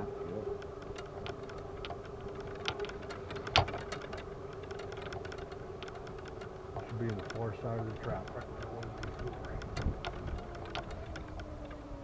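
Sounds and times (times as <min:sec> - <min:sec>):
golf cart whine: 0:00.0 - 0:12.0.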